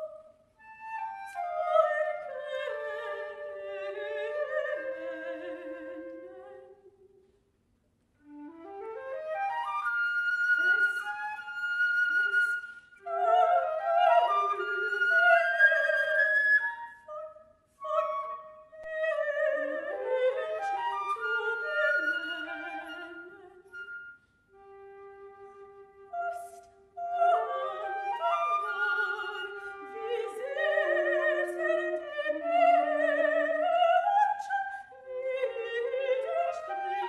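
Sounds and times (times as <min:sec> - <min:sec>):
classical-style melody: 0:00.0 - 0:07.4, 0:08.0 - 0:37.0.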